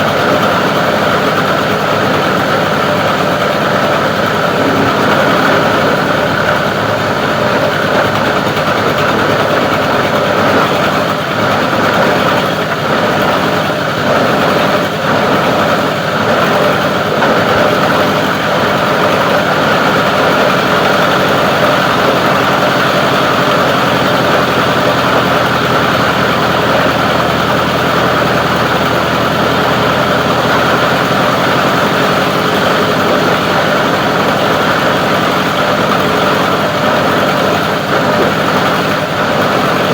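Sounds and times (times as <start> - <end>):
grinding machine drone: 1.9 - 14.8, 15.5 - 39.9.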